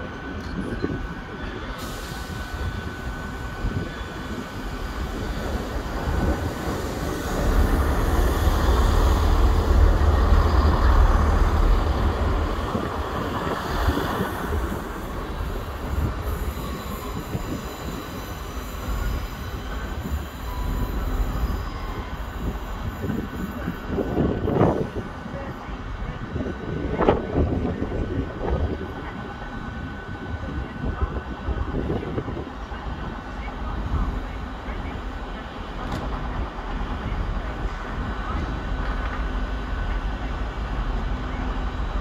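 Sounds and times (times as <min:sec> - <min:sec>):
train rumbling over track: 0:00.0 - 0:42.0.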